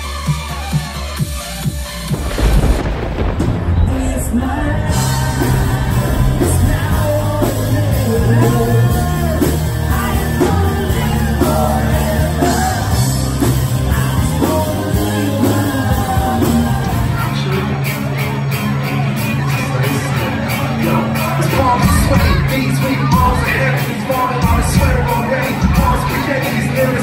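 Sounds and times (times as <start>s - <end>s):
live rock band playing: 0.0s - 27.0s
lead singer singing: 2.3s - 18.0s, 20.6s - 27.0s.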